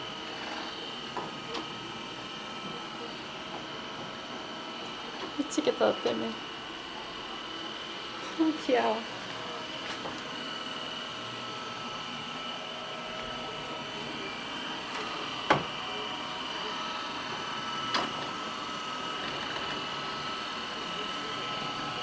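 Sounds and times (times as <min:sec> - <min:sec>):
robot vacuum cleaner whirring: 0:00.0 - 0:22.0.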